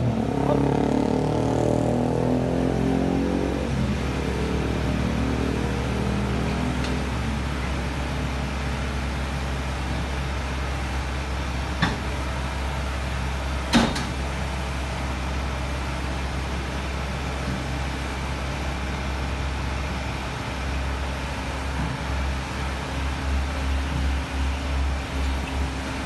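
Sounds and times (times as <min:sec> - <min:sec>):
diesel engine idling: 0:00.0 - 0:02.0, 0:03.6 - 0:26.0.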